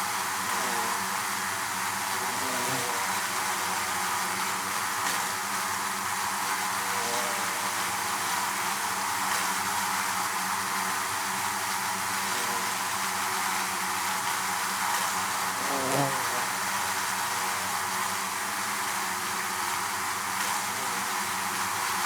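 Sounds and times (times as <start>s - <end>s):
bees buzzing in hive: 0.1s - 22.0s.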